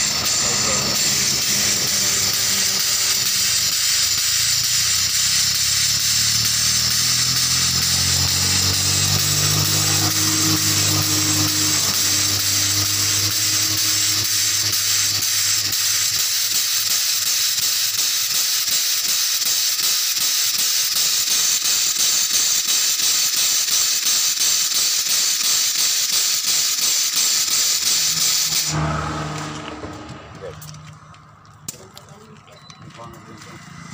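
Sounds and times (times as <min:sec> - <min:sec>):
air pump hissing and pulsing: 0:00.0 - 0:32.3.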